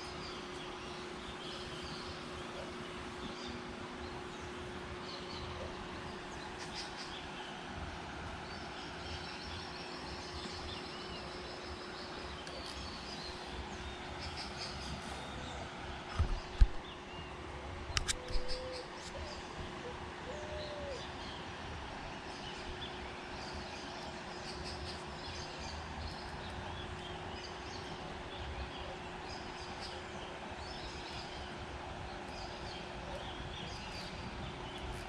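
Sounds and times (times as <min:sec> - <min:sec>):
small birds chirping: 0:00.0 - 0:19.8, 0:20.4 - 0:35.0
steady low hum: 0:00.0 - 0:35.0.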